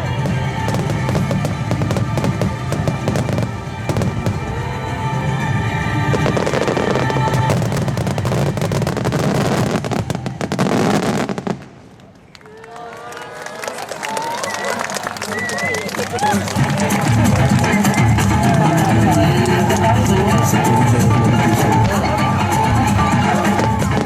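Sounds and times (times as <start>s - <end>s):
music playing: 0.0s - 11.6s, 15.0s - 24.0s
fireworks bursts and crackling: 0.0s - 12.3s, 14.3s - 24.0s.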